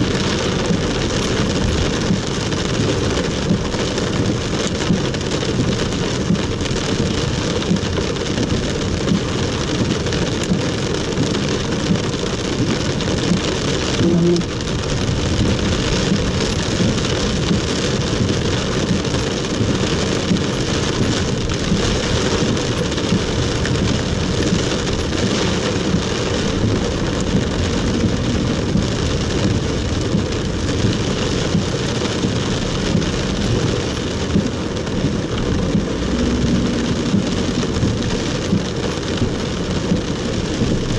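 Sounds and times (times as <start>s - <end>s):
heavy rain on car roof: 0.0s - 40.9s
tyres hissing on wet road: 0.0s - 40.9s.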